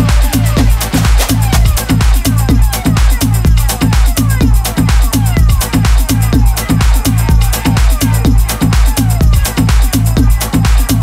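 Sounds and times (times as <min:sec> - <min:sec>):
progressive house music: 0:00.0 - 0:11.0.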